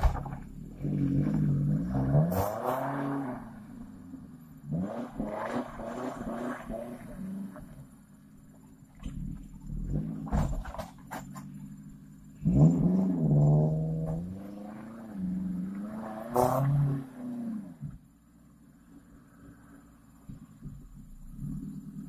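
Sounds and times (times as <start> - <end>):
car engine revving under load: 0.0 - 18.2, 19.3 - 22.0.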